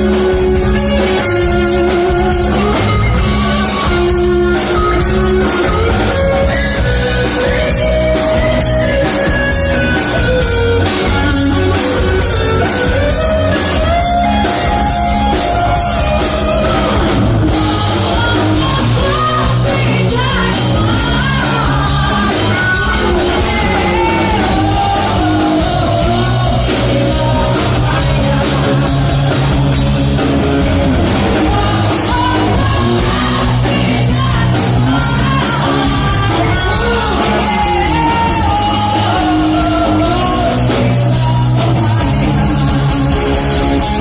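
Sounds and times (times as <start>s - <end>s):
guitar: 0.0s - 44.0s
person singing: 0.0s - 44.0s
steady drum beat: 0.0s - 44.0s.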